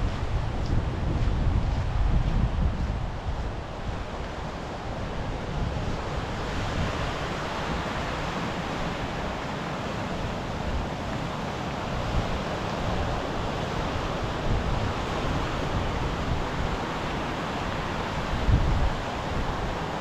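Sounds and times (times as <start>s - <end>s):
sea surf washing ashore: 0.0s - 20.0s
wind buffeting microphone: 0.0s - 20.0s.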